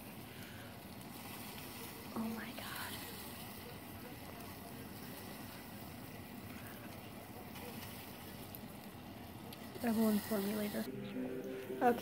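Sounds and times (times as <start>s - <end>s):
soda boiling in a saucepan: 0.0s - 12.0s.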